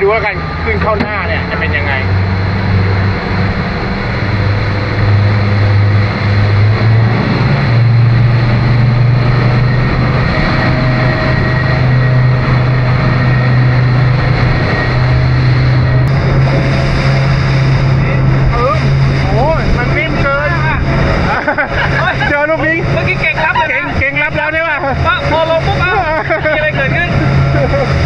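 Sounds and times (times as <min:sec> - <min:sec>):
churning water: 0:00.0 - 0:28.0
outboard motors running hard: 0:00.0 - 0:28.0
wind rushing: 0:00.0 - 0:28.0.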